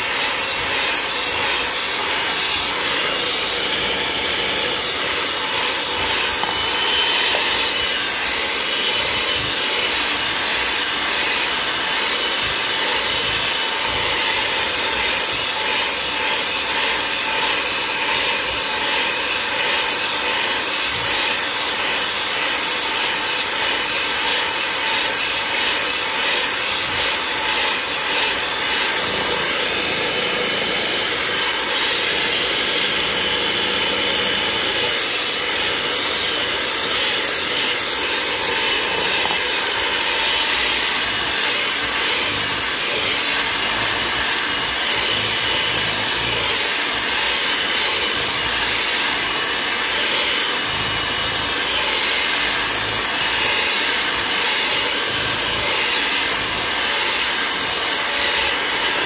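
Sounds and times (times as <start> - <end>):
electric mixer beating batter: 0.0 - 59.0.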